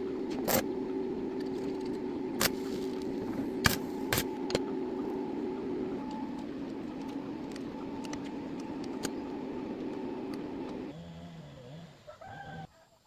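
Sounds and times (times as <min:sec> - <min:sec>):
motor humming: 0:00.0 - 0:12.7.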